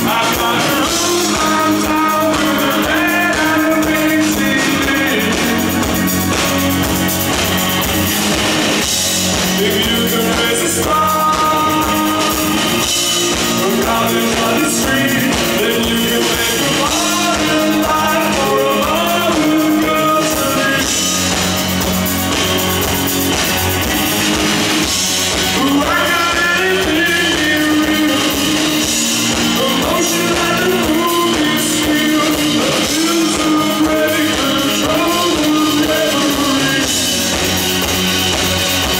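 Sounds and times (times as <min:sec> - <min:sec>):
man singing lead: 0:00.0 - 0:06.6, 0:08.8 - 0:21.8, 0:24.8 - 0:37.9
bass guitar: 0:00.0 - 0:38.9
drum kit: 0:00.0 - 0:38.9
electric guitar: 0:00.0 - 0:38.9.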